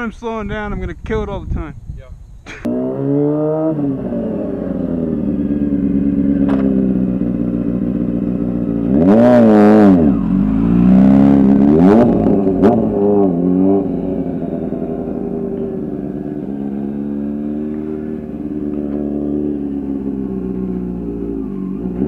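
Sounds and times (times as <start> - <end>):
motorcycle engine revving: 2.6 - 22.0.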